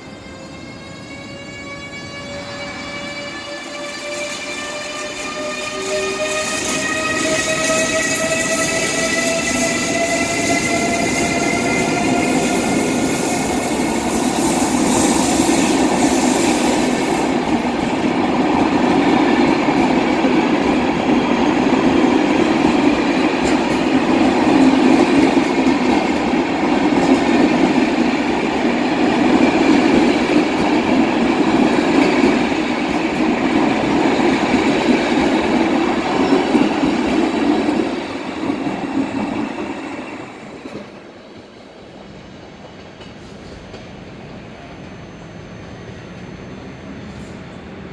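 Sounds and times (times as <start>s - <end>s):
electric locomotive whine: 0.0s - 47.9s
train wheels rumbling on rails: 0.0s - 47.9s.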